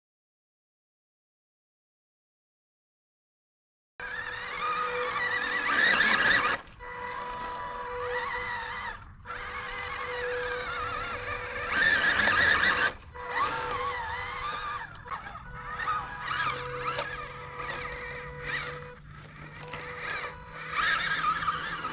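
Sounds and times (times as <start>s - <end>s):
toy car electric motor whining: 4.0s - 21.9s.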